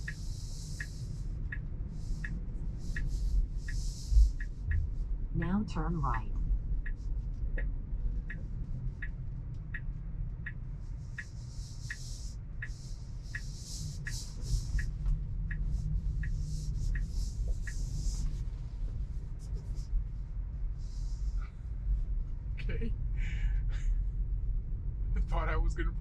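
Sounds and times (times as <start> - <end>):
turn signal ticking: 0.0 - 21.5
low rumble of car moving: 0.0 - 26.0.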